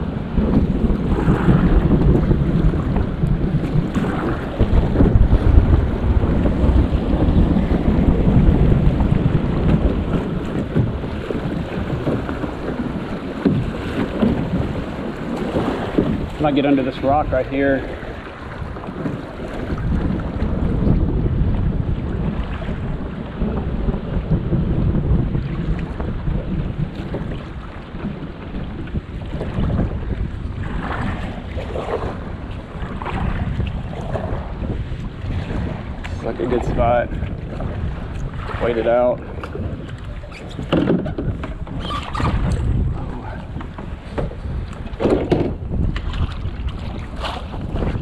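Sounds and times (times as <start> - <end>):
paddle splashes in water: 0.0 - 48.0
water lapping around kayak: 0.0 - 48.0
wind buffeting microphone: 0.0 - 48.0.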